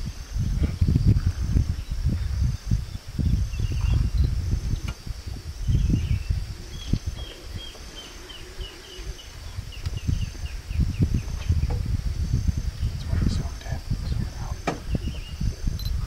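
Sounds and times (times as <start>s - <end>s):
high insect drone: 0.0s - 16.0s
wind buffeting microphone: 0.0s - 16.0s.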